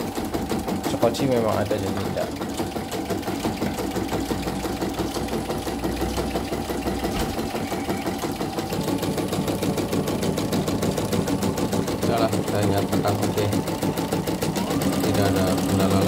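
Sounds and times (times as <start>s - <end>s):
embroidery machine stitching: 0.0s - 16.0s.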